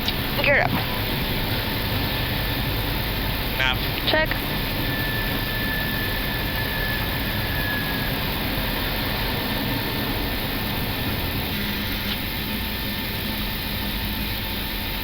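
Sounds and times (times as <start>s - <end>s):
airflow and engine rushing: 0.0s - 15.0s
faint high whine: 0.0s - 15.0s.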